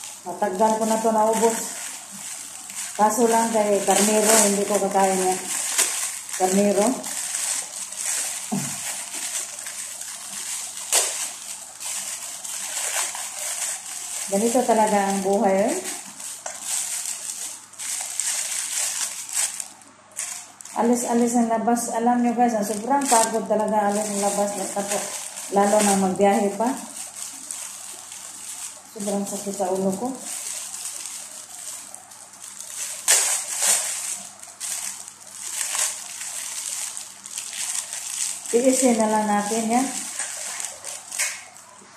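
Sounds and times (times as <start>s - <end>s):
plastic sheets crinkling: 0.0s - 41.9s
steady hiss: 0.0s - 41.9s.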